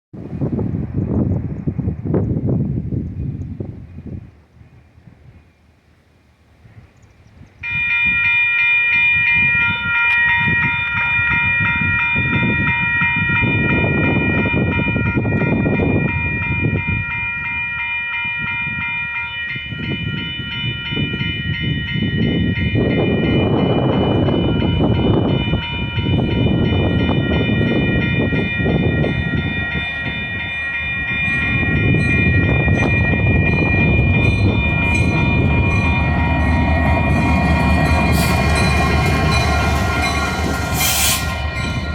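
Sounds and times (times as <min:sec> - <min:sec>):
train rumbling: 0:06.5 - 0:41.9
locomotive bell ringing: 0:07.6 - 0:41.9.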